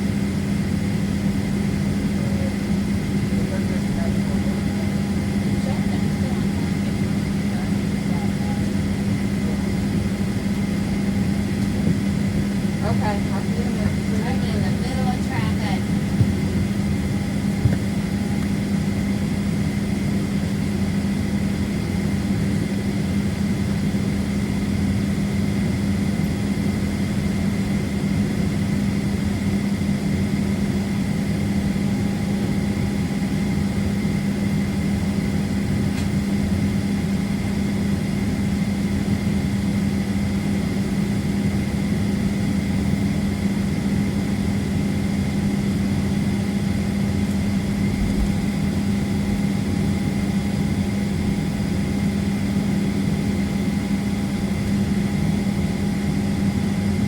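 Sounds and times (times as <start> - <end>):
airliner engine drone: 0.0 - 57.0
steady high whine: 0.0 - 57.0.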